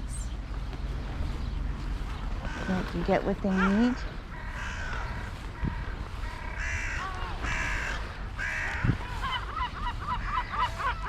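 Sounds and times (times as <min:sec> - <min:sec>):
crows cawing: 0:01.7 - 0:11.0.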